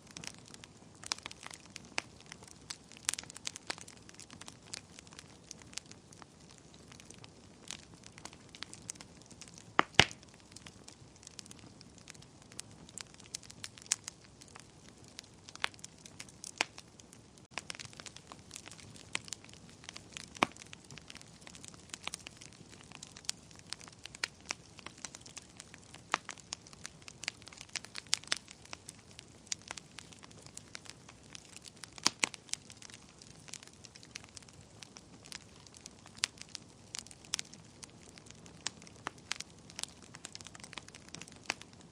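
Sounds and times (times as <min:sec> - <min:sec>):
faint fire hiss: 0:00.0 - 0:41.9
wood fire crackling: 0:00.0 - 0:41.9.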